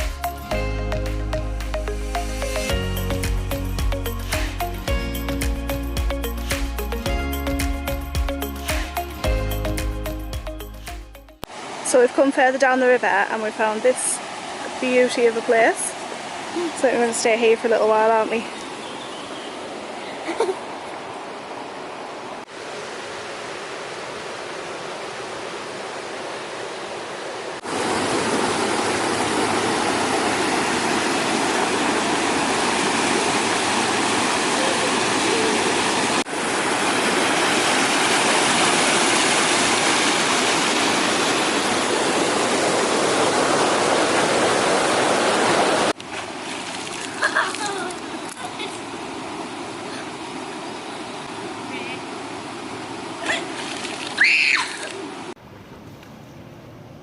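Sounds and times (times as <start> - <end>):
river and waterfall rushing: 0.0 - 55.4.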